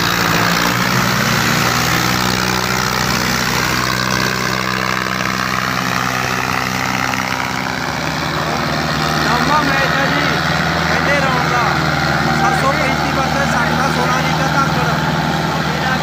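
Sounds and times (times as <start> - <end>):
diesel tractor engines under load: 0.0 - 16.0.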